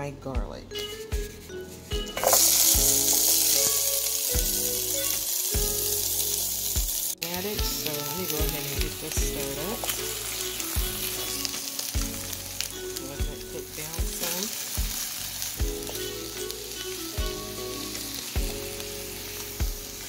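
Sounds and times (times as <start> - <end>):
vegetables sizzling in oil: 1.3 - 20.0.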